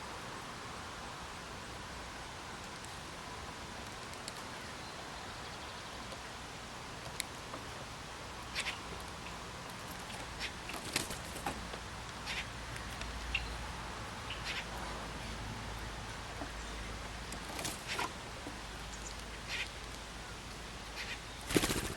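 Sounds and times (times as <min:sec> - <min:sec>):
outdoor background hiss: 0:00.0 - 0:21.9
birds pecking seed ticks: 0:02.2 - 0:04.7, 0:05.5 - 0:21.9.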